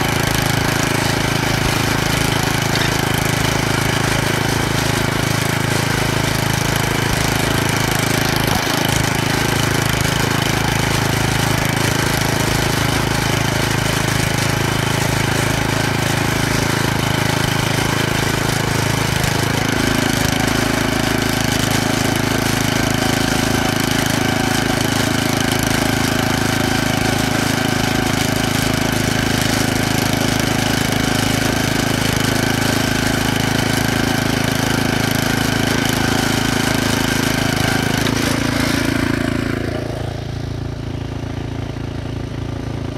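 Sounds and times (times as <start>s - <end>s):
tractor engine droning: 0.0s - 42.9s.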